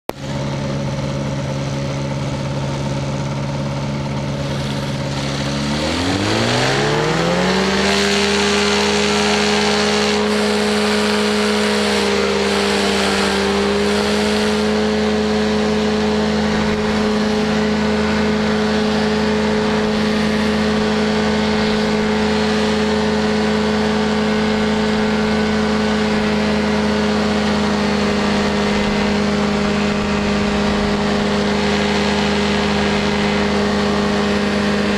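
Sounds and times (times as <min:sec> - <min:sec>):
engine and propeller running: 0:00.0 - 0:34.9.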